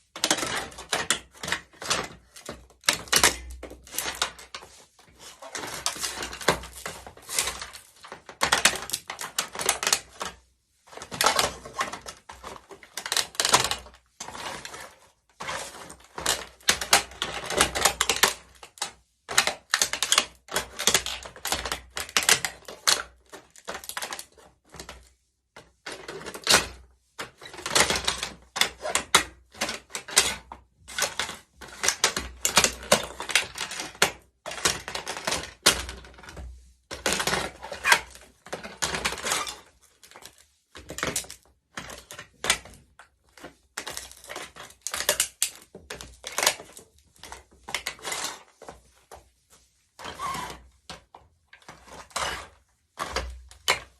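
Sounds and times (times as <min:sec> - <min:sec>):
plastic toy cracking and crunching: 0:00.2 - 0:04.7, 0:05.3 - 0:10.4, 0:11.0 - 0:25.1, 0:25.9 - 0:48.5, 0:51.6 - 0:53.9.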